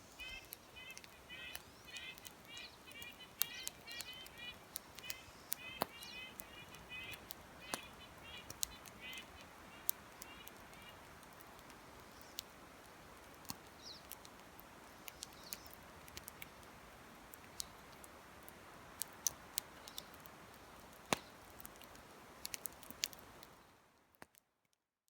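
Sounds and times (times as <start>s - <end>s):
campfire crackling: 0.0s - 24.6s.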